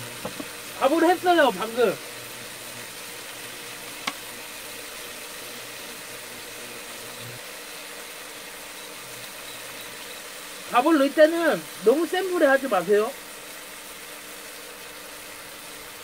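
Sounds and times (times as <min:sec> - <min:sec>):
shrimp sizzling in oil: 0:00.0 - 0:16.0.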